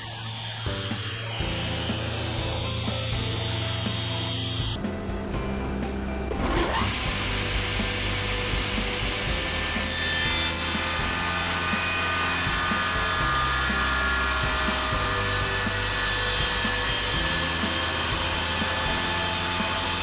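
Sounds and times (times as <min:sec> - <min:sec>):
table saw cutting wood: 0:00.0 - 0:20.0.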